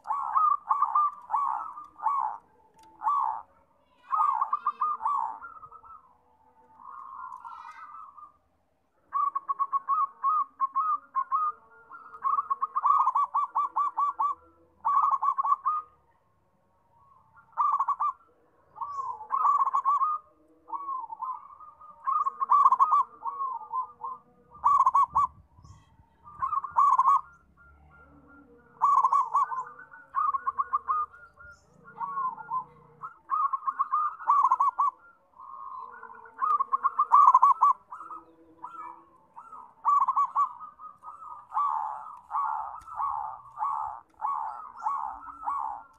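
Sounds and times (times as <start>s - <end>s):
dove cooing: 0.0s - 16.2s, 16.9s - 45.9s.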